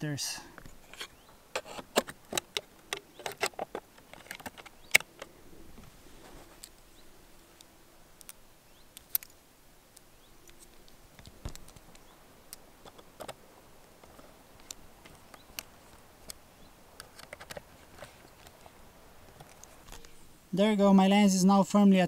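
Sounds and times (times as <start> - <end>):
faint handling noise: 0.0 - 20.4.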